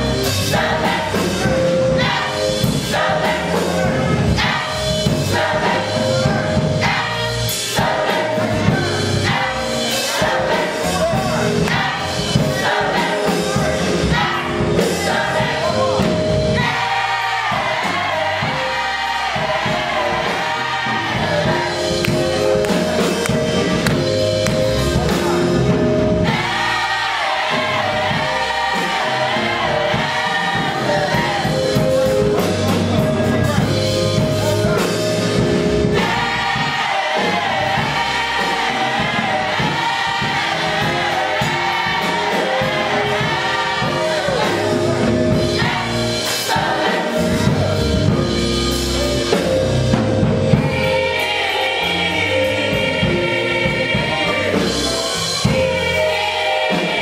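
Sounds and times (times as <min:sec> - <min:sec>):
gospel choir singing: 0:00.0 - 0:57.0.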